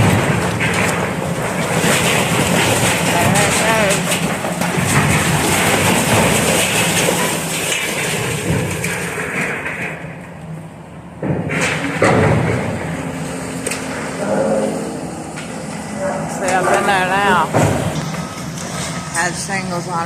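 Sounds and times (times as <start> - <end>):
heavy crashes: 0.0 - 10.4, 11.2 - 19.9
debris crashing: 0.0 - 20.0.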